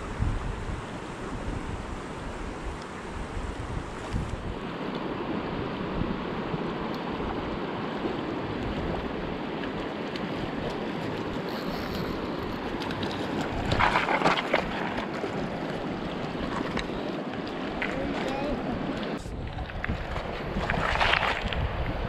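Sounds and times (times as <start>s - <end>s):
river water rushing: 0.0s - 21.6s.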